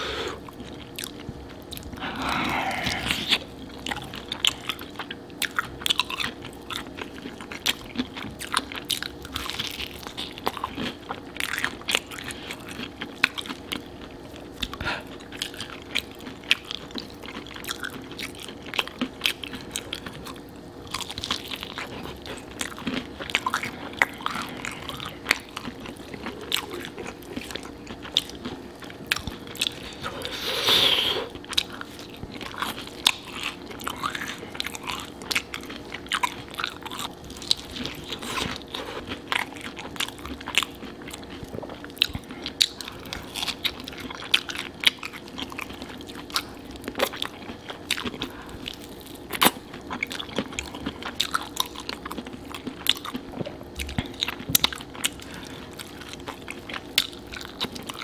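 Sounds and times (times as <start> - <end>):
crunching fried chicken: 0.4 - 58.0.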